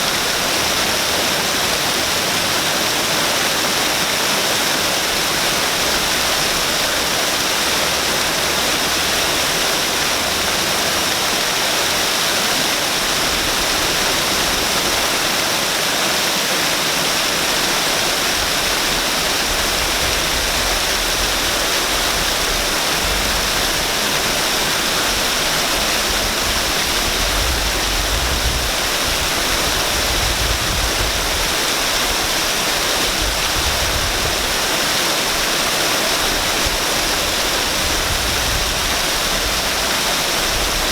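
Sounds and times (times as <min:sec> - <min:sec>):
waterfall splashing: 0:00.0 - 0:40.9.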